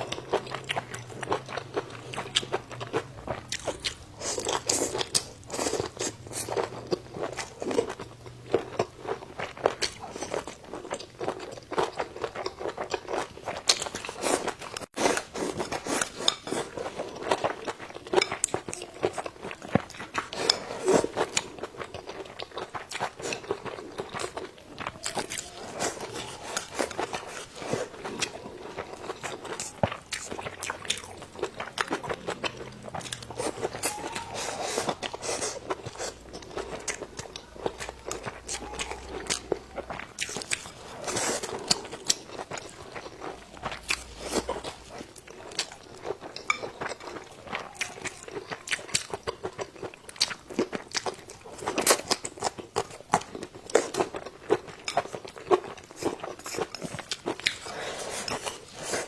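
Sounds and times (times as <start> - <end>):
person chewing and biting food: 0.0 - 59.0.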